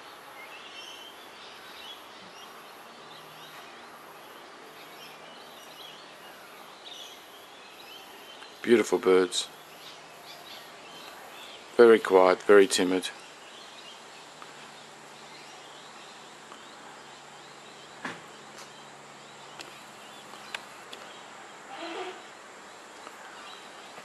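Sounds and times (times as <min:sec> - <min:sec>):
insects hissing: 0:00.2 - 0:24.0.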